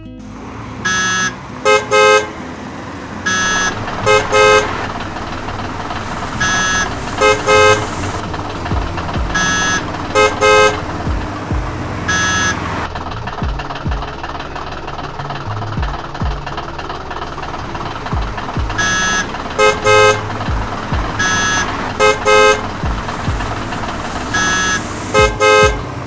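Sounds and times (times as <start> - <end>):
engine rumble: 0.0 - 26.0
vehicle horn honking: 0.3 - 12.9, 17.3 - 26.0.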